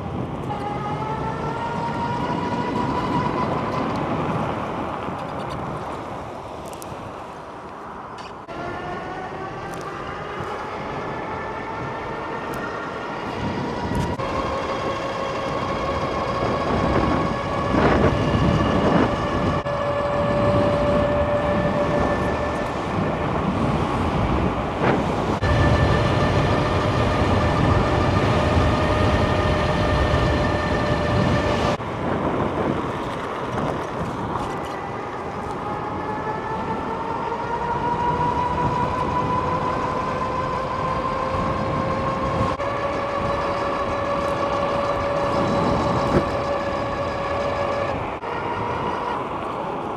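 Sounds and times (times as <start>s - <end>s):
electric bike motor whining: 0.0s - 5.9s, 8.2s - 49.9s
wind and tyres rumbling: 0.0s - 49.9s.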